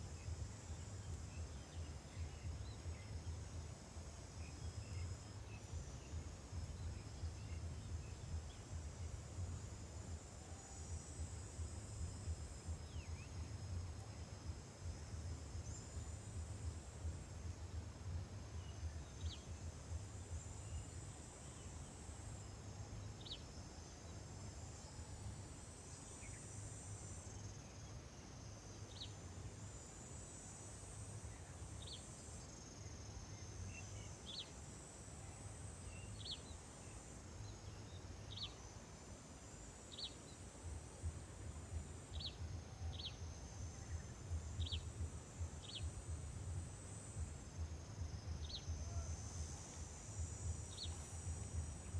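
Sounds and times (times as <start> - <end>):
insects buzzing: 0.0 - 51.9.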